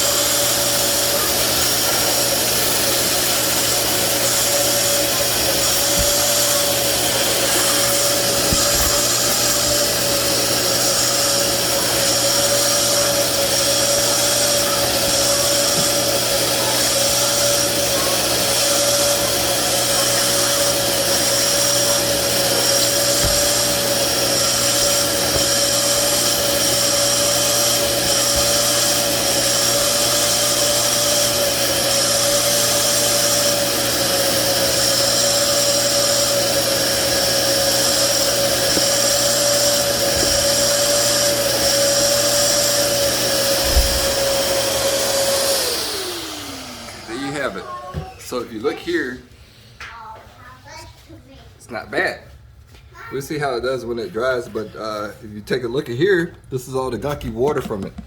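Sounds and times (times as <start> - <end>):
spot cleaner suction motor whine: 0.0 - 48.4.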